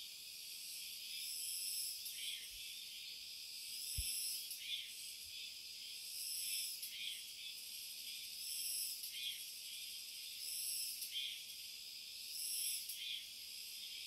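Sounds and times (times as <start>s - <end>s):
faint insect chirps: 0.0s - 14.0s
insects buzzing chorus: 0.0s - 14.0s.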